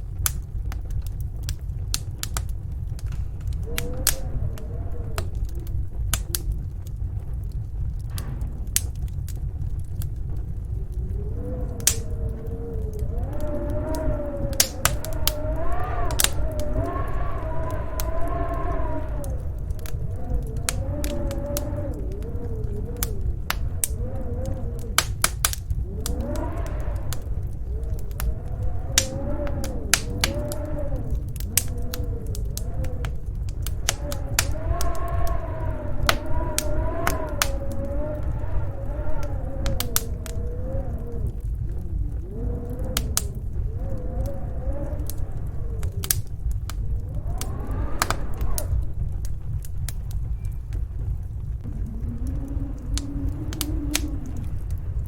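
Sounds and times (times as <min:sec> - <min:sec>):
low rumble: 0:00.0 - 0:55.0
storm wind howling: 0:00.0 - 0:55.0
wood fire crackling and popping: 0:00.0 - 0:55.0.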